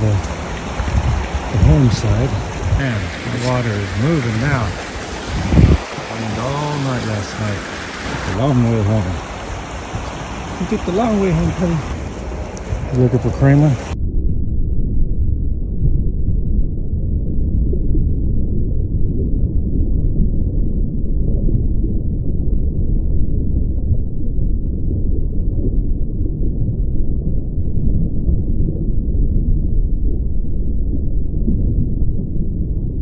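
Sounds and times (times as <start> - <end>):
muffled low rumble: 0.0 - 33.0.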